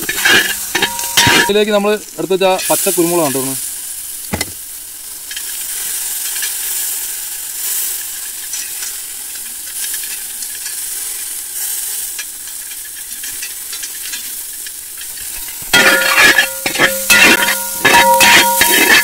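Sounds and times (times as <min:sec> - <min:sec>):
spices sizzling in oil: 0:00.0 - 0:19.0
small crackles: 0:02.4 - 0:19.0.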